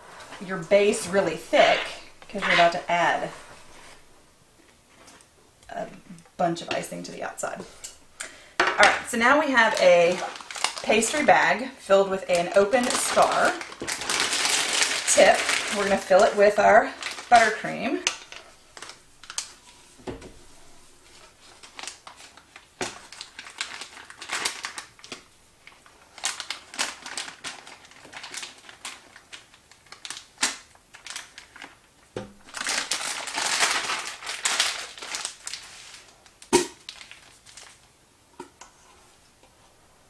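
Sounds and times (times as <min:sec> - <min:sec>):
plastic pastry bag crinkling: 0:00.1 - 0:04.2, 0:08.8 - 0:37.9.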